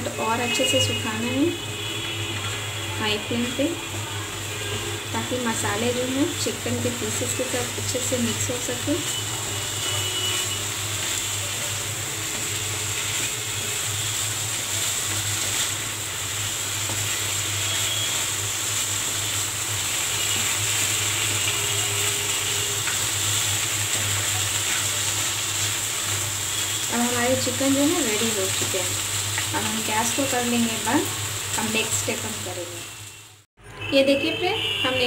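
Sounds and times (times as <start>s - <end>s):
chicken sizzling in a pan: 0.0s - 33.9s.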